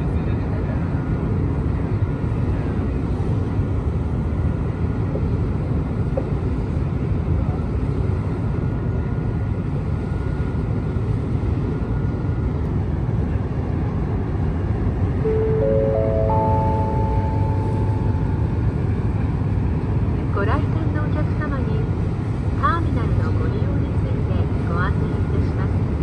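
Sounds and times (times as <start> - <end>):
ship engines rumbling: 1.3 - 26.0.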